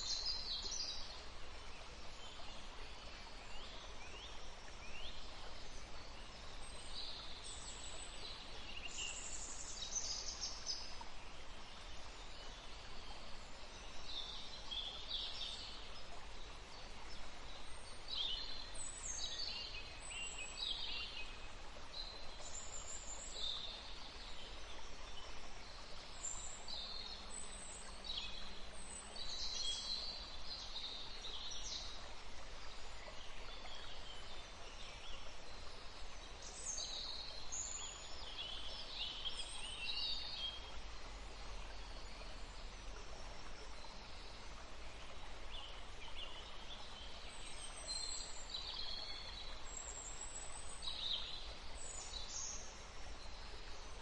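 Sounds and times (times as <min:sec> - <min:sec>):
forest stream rushing: 0:00.0 - 0:54.0
songbirds singing and chirping: 0:00.0 - 0:54.0.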